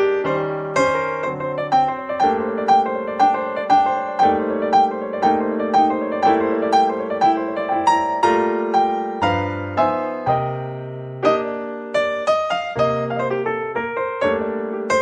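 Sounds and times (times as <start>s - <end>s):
calm instrumental music: 0.0s - 15.0s.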